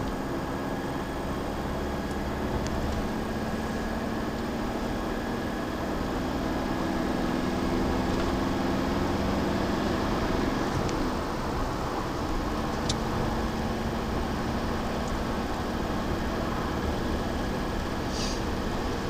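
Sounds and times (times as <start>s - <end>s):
car interior road drone: 0.0s - 19.0s.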